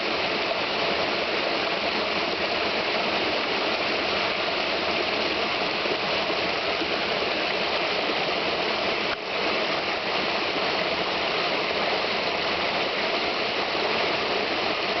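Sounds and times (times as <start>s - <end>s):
brook babbling: 0.0s - 15.0s.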